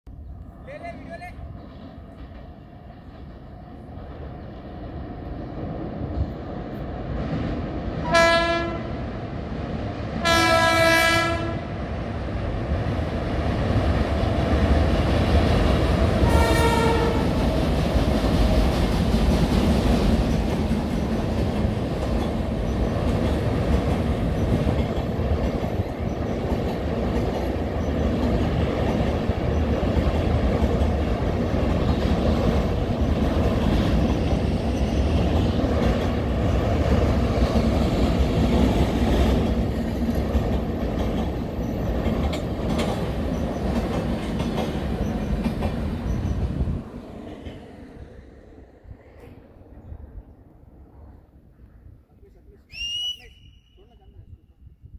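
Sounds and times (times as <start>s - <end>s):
train wheels rumbling on rails: 0.4s - 51.2s.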